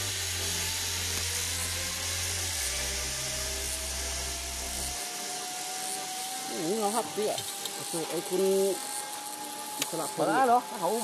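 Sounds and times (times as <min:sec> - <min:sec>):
zipline pulleys hissing on cable: 0:00.0 - 0:11.0.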